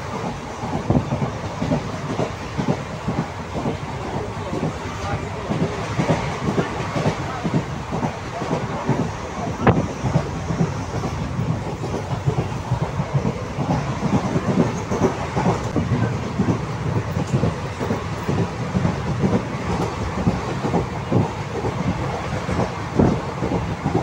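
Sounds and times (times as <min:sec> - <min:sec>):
train coach rumbling: 0:00.0 - 0:24.0
wheels clattering over rails: 0:00.0 - 0:24.0.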